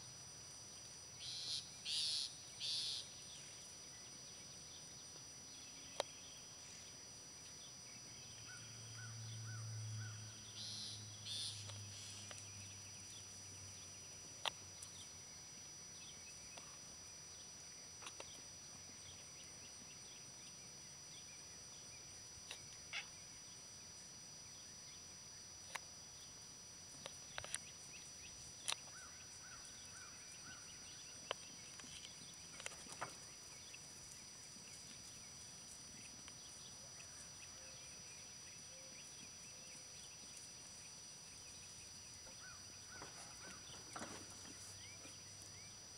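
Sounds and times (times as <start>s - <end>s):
insect drone: 0.0s - 45.9s.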